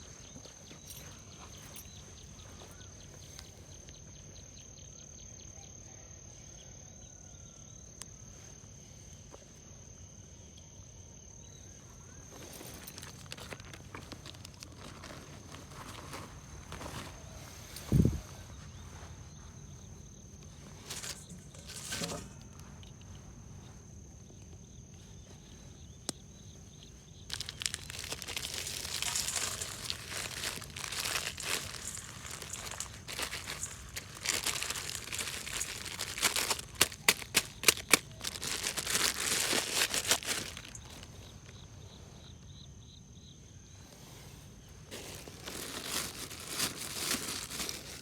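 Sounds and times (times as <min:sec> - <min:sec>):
crinkling handling noise: 0:00.0 - 0:04.8, 0:11.7 - 0:42.4, 0:44.6 - 0:48.0.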